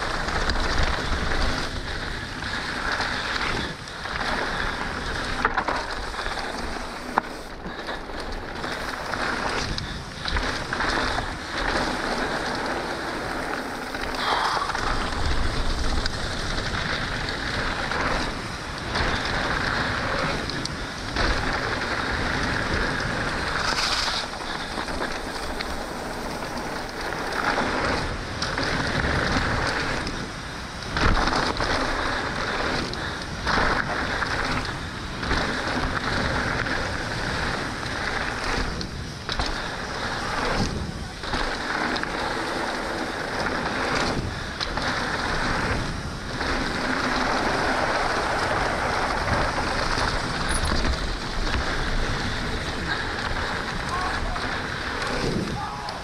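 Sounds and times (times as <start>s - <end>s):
bike rattling and knocking: 0.0s - 56.0s
tyres rolling over dirt: 0.0s - 56.0s.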